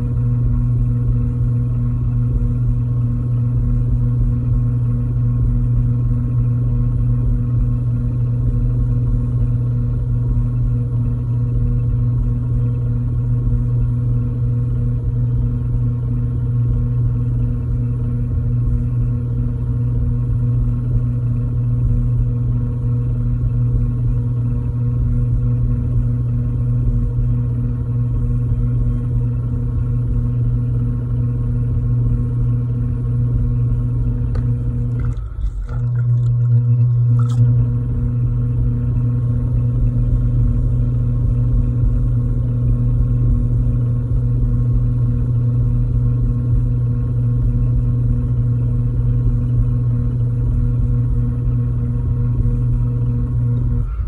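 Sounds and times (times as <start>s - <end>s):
pottery wheel motor humming: 0.0s - 54.0s.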